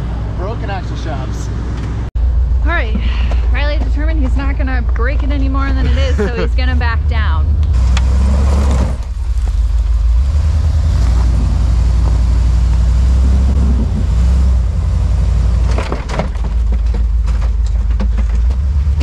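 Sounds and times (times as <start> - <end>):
truck engine running low: 0.0 - 19.0.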